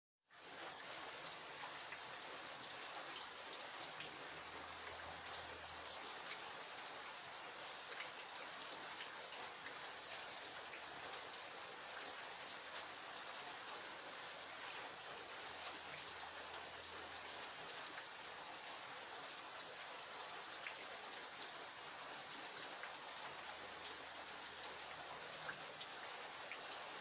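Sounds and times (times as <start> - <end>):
rain pattering: 0.3 - 27.0.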